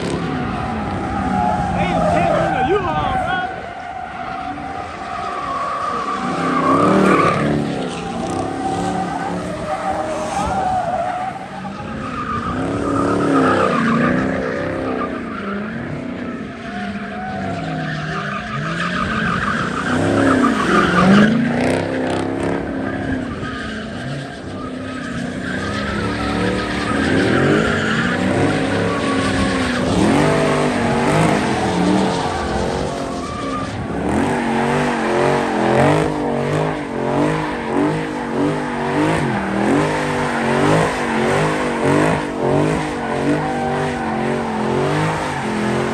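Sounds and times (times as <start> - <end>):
car engine revving: 0.0 - 45.9
tires squealing: 0.0 - 45.9.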